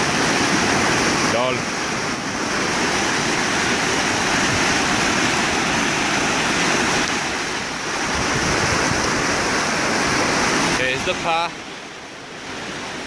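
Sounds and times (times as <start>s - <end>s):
floodwater rushing in stream: 0.0s - 13.0s.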